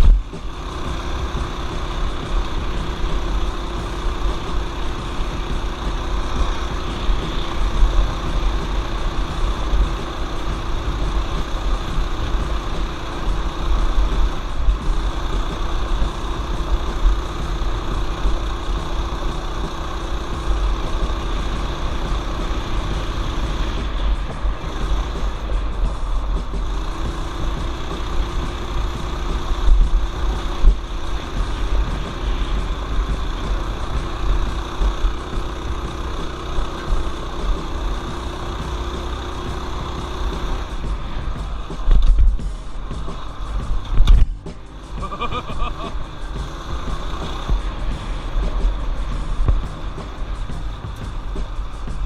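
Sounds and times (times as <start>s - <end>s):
mini bike engine running: 0.0s - 52.0s.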